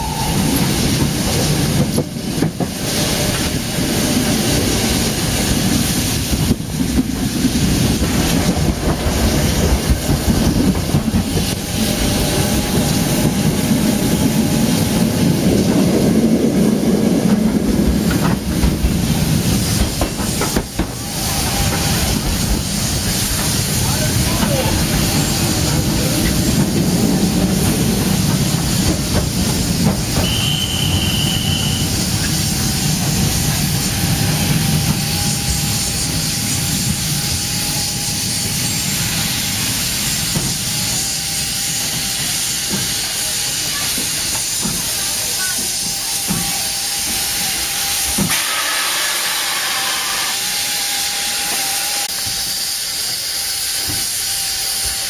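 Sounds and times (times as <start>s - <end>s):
steam hissing: 0.0s - 55.0s
train coaches rumbling past: 0.0s - 55.0s.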